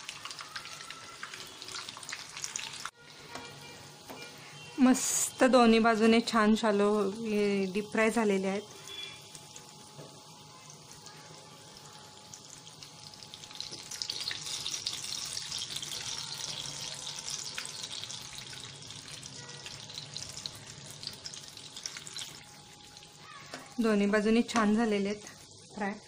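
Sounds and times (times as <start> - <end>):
cutlets sizzling in hot oil: 0.0 - 26.0.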